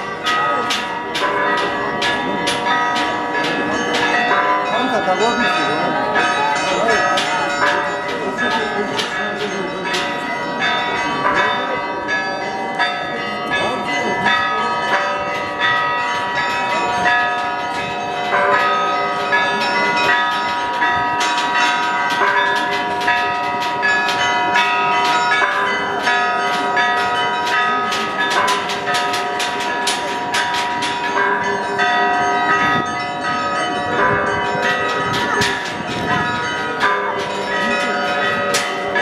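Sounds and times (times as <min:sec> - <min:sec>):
church bells ringing: 0:00.0 - 0:39.0
crowd chatter: 0:00.0 - 0:39.0.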